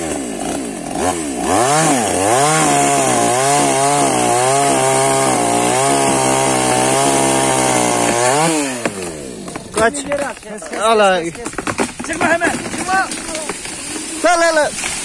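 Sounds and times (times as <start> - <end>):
chainsaw revving and cutting wood: 0.0 - 15.0.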